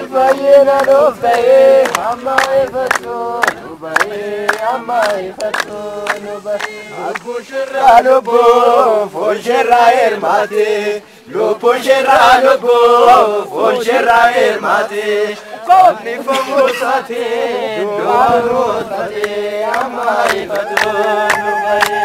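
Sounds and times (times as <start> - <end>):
group chanting a refrain: 0.0 - 22.0.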